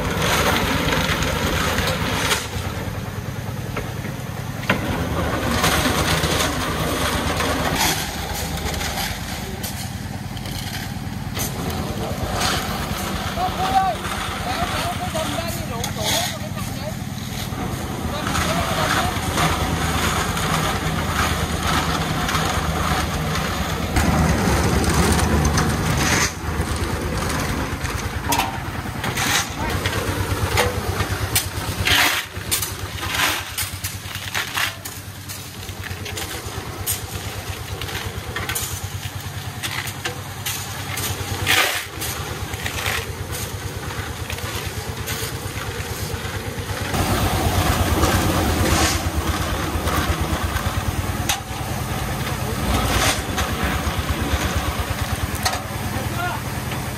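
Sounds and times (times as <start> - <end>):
stones clattering into basins: 0.0 - 2.7, 3.8 - 56.9
concrete mixer engine running: 0.0 - 56.9
shovels scraping gravel: 0.0 - 56.9.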